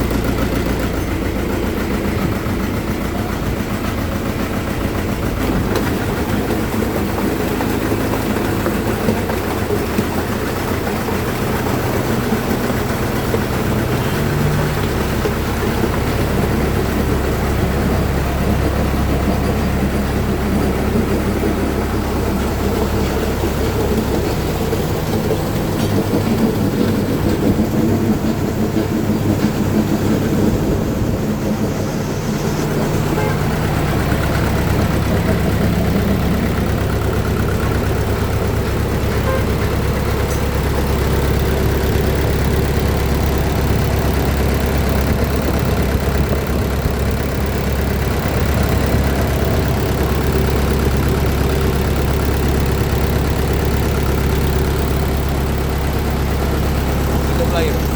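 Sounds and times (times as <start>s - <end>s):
diesel engine running: 0.0s - 57.9s
higher engine note: 0.0s - 57.9s.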